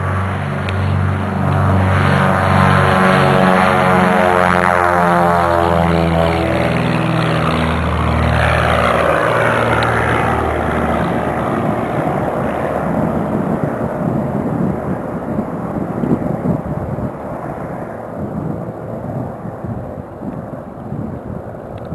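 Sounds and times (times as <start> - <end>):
propeller airplane taking off: 0.0 - 21.9.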